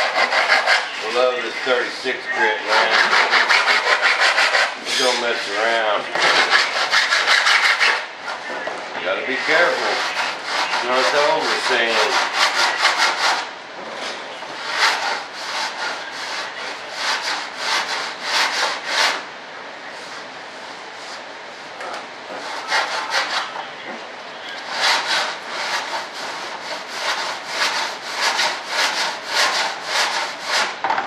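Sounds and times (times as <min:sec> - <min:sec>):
sandpaper scraping back and forth: 0:00.0 - 0:08.6, 0:09.2 - 0:19.2, 0:22.3 - 0:23.6, 0:24.6 - 0:30.8.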